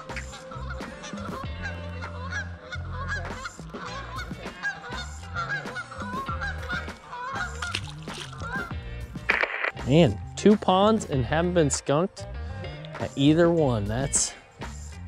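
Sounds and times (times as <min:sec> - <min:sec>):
background music with bass line: 0:00.0 - 0:15.0.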